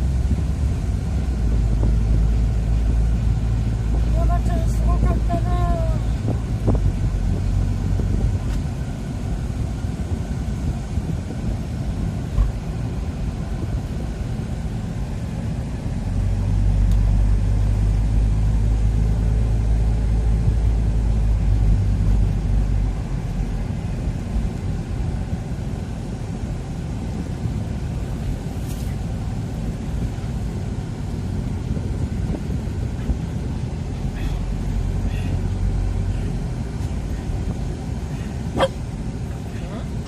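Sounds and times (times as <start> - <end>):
road and engine rumble: 0.0 - 40.0.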